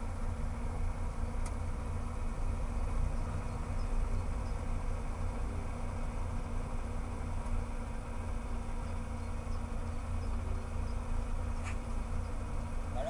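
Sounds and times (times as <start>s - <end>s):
other cars idling: 0.0s - 13.0s
rotary engine idling: 0.0s - 13.0s.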